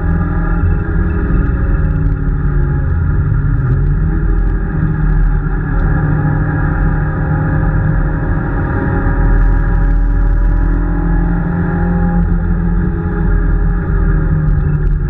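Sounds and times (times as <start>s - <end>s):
rally car engine from inside cabin: 0.0s - 15.0s.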